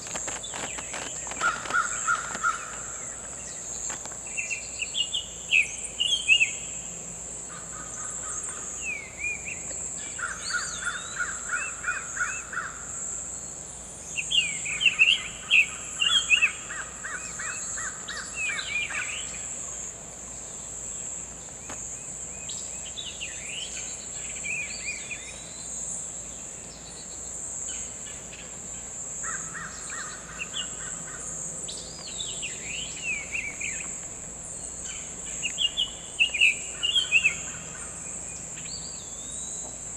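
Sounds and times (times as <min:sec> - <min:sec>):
high insect drone: 0:00.0 - 0:39.9
rapid repeated bird notes: 0:00.0 - 0:39.9.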